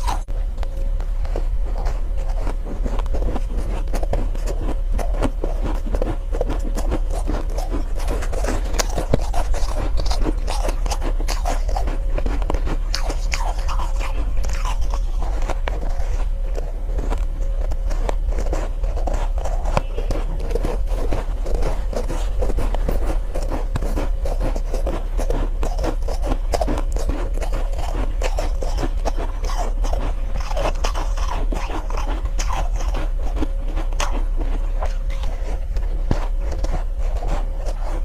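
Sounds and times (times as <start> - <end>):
chewing and crunching ice: 0.0 - 38.0
low hum: 0.0 - 38.0.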